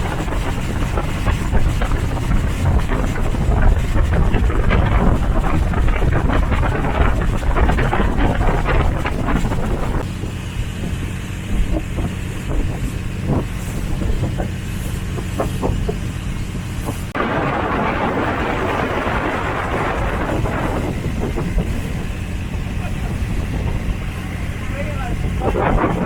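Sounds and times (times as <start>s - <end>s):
moving vehicle rumble: 0.0s - 26.0s
wind buffeting microphone: 0.0s - 26.0s.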